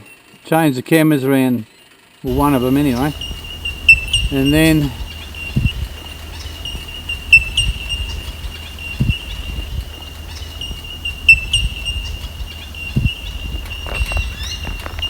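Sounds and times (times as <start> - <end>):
high-pitched insect trill: 2.3 - 15.0.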